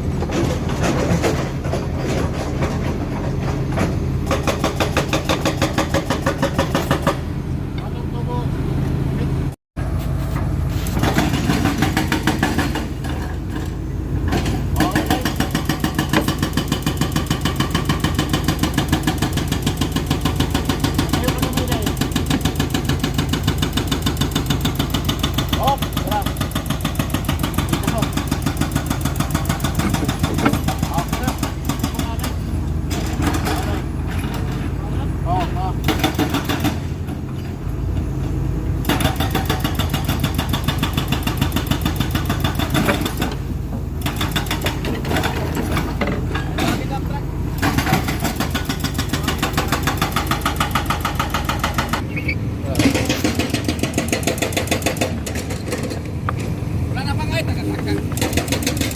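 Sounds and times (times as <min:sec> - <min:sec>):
diesel engine pulsing: 0:00.0 - 0:58.9.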